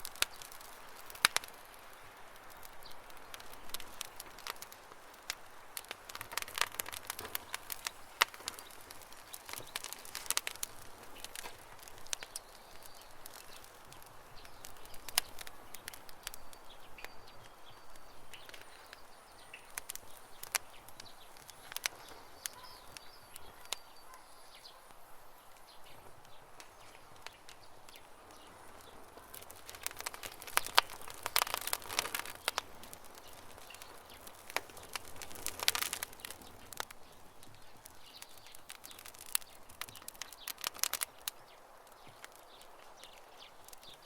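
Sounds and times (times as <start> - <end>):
campfire crackling and popping: 0.0 - 44.0
faint birds chirping: 0.0 - 44.0.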